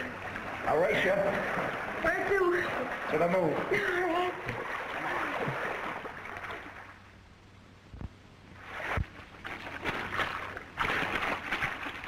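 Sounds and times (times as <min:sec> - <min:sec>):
water splashing: 0:00.0 - 0:07.2, 0:08.5 - 0:12.0.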